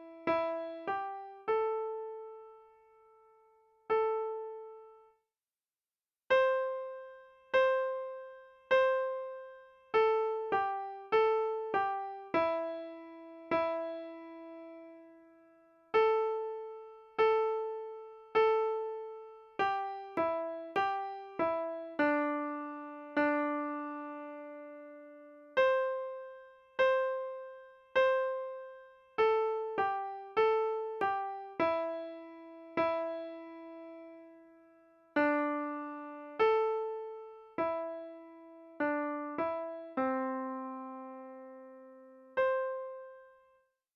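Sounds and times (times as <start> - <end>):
simple piano melody: 0.0 - 5.2, 6.3 - 43.7.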